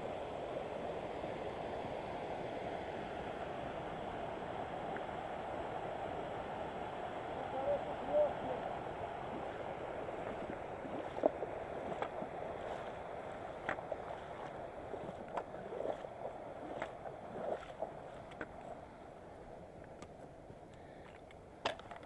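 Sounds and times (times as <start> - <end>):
rushing river water: 0.0 - 21.6.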